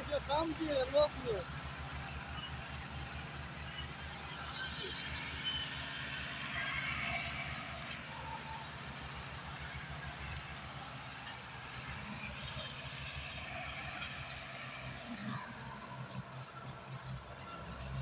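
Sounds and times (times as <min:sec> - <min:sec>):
diesel tractors chugging: 0:00.0 - 0:18.0.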